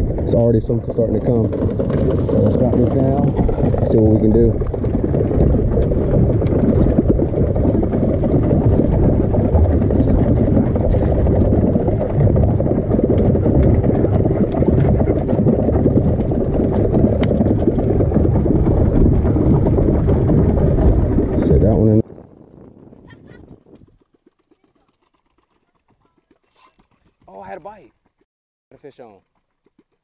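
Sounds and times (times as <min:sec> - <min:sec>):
wind buffeting microphone: 0:00.0 - 0:24.1.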